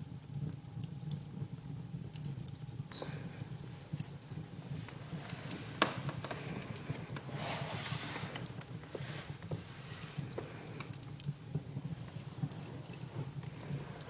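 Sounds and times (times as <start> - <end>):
fire crackling and popping: 0.0 - 14.0
fire rumbling: 0.0 - 14.0
fire hissing: 2.2 - 14.0.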